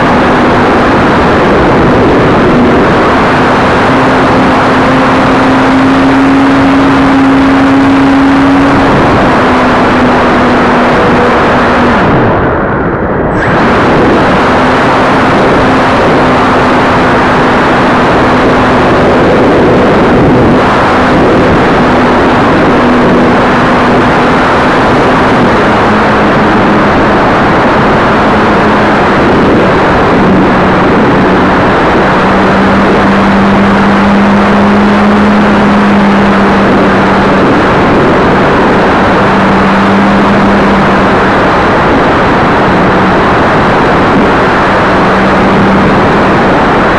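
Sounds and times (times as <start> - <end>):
electric motor and propeller buzzing: 0.0 - 46.9
wind rushing: 0.0 - 46.9.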